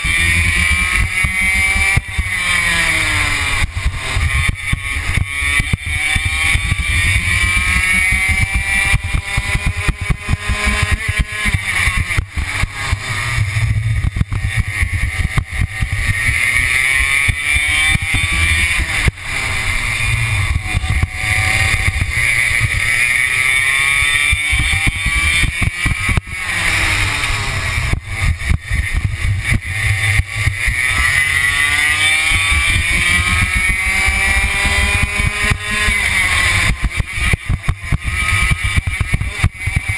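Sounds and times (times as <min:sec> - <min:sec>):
kart engine at full throttle: 0:00.0 - 0:39.9.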